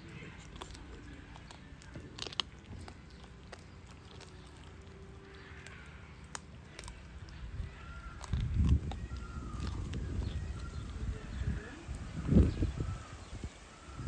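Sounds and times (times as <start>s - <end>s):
lion cubs chewing meat: 0.0s - 14.0s.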